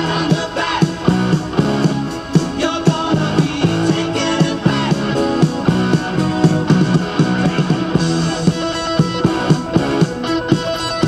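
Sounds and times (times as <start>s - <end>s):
rock music through speakers: 0.0s - 11.0s.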